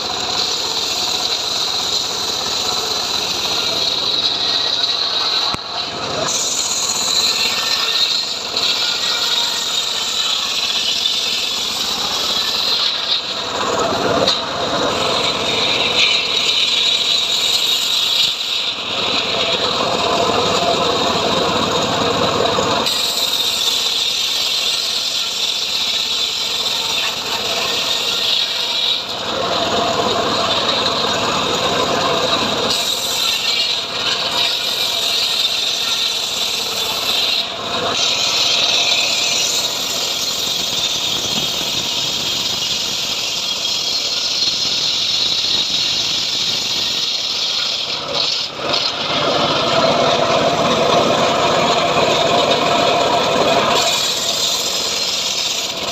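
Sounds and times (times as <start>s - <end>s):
engine-driven saw cutting wood: 0.0s - 55.9s.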